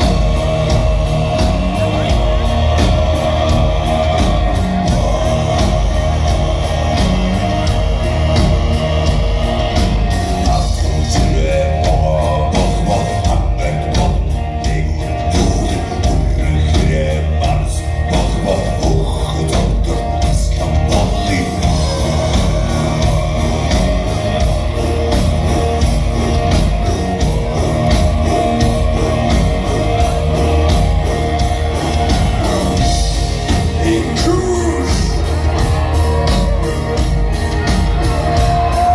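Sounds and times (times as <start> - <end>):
deep throat-sung vocals: 0.0 - 38.5
driving drum beat: 0.0 - 38.9
electric guitars: 0.0 - 38.9
folk metal band playing live: 0.0 - 38.9.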